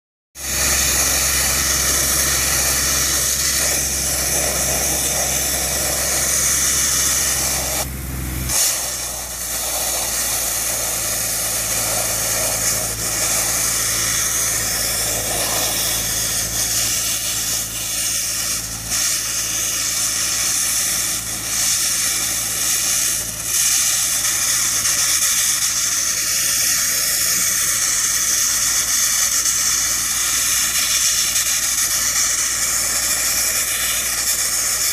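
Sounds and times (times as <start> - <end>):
low machine hum: 0.4 - 34.9
sandblasting hiss: 0.4 - 34.9.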